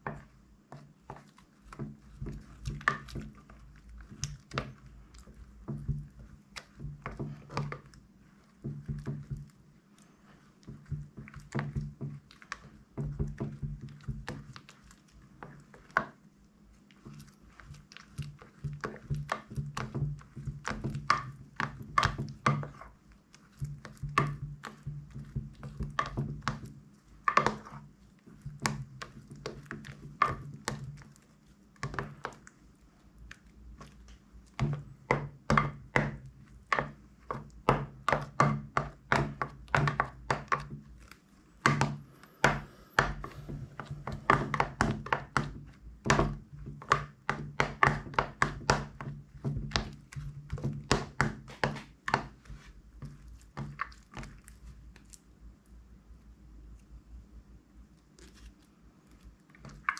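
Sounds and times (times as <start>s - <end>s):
slime squelching and clicking: 0.1s - 45.6s, 46.7s - 55.4s.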